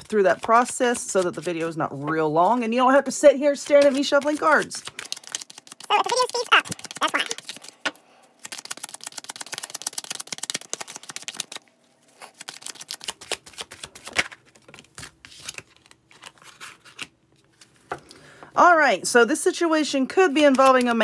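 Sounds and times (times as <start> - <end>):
cards being shuffled: 0.0 - 18.1, 20.3 - 21.0.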